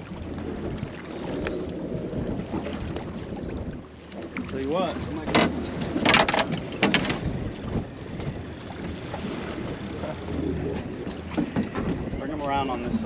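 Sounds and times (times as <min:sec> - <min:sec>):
water washing against boat hull: 0:00.0 - 0:13.0
wind buffeting microphone: 0:00.0 - 0:13.0.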